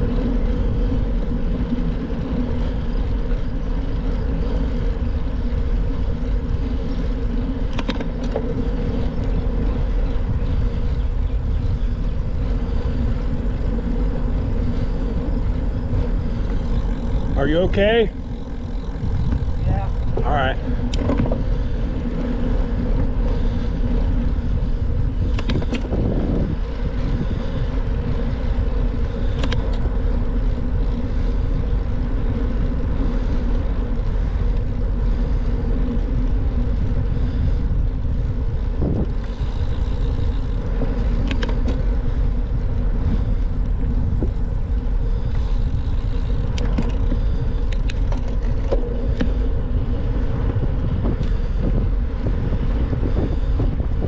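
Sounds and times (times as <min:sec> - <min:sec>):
road noise: 0:00.0 - 0:54.0
wind rushing on microphone: 0:00.0 - 0:54.0.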